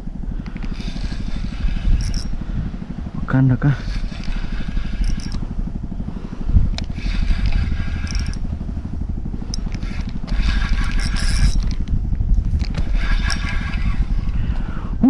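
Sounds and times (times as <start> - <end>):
fishing reel whirring: 0.0 - 14.5
wind buffeting microphone: 0.0 - 15.0.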